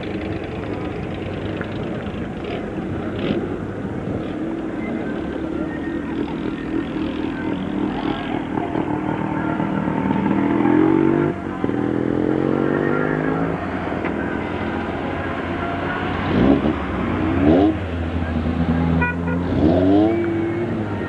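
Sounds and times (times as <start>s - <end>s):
racing car engine accelerating: 2.2s - 21.0s.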